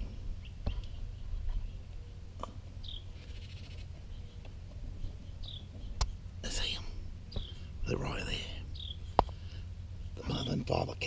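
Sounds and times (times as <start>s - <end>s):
nestlings peeping: 0.0s - 11.0s
steady low rumble: 0.0s - 11.0s.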